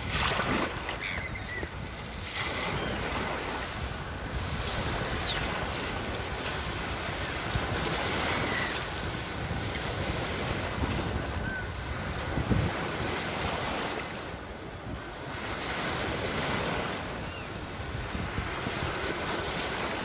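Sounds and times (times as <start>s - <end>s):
sea waves washing on shore: 0.0s - 20.0s
wind on microphone: 0.0s - 20.0s.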